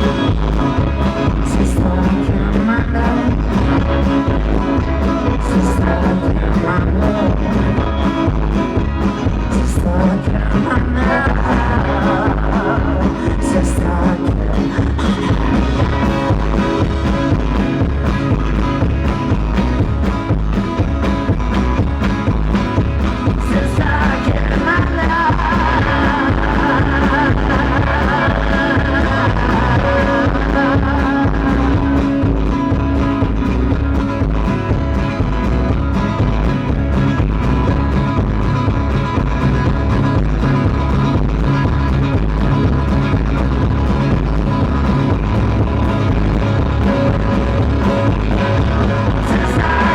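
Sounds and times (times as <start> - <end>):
rock band playing: 0.0 - 49.9
steady drum beat: 0.0 - 49.9.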